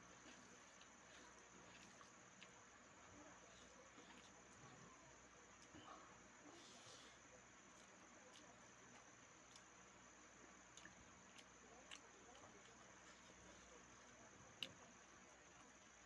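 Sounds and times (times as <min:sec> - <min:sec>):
soft chewing clicks: 0:00.1 - 0:06.6, 0:07.2 - 0:16.0.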